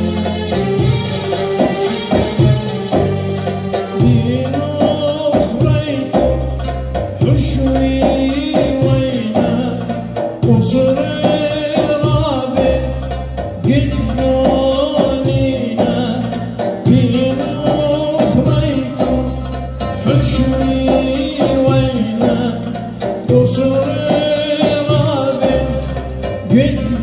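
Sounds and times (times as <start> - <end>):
electronic keyboard bass line: 0.0 - 27.0
light percussion: 0.0 - 27.0
oud: 0.0 - 27.0
man singing: 3.9 - 27.0.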